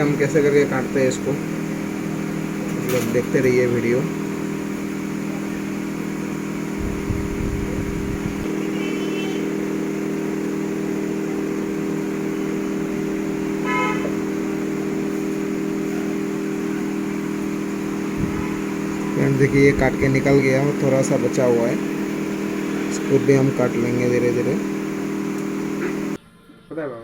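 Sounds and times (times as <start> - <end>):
electric motor hum: 0.0 - 26.2.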